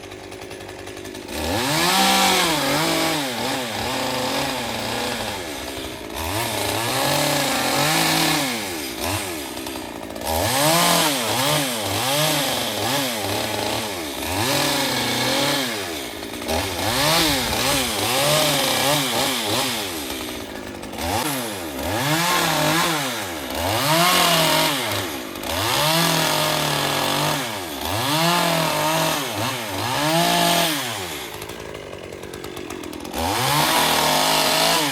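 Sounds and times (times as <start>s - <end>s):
chainsaw engine revving: 0.0s - 34.9s.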